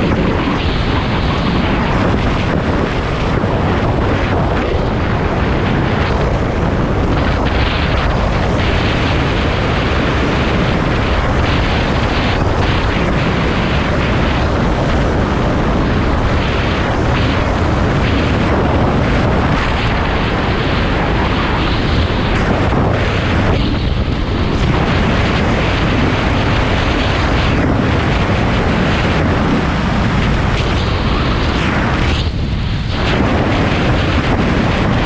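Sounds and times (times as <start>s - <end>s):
road noise: 0.0s - 35.0s
wind buffeting microphone: 0.0s - 35.0s.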